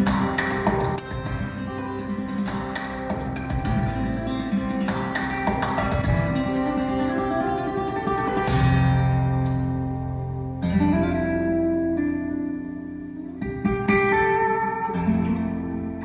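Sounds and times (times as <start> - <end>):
guitar instrumental music: 0.0 - 16.0.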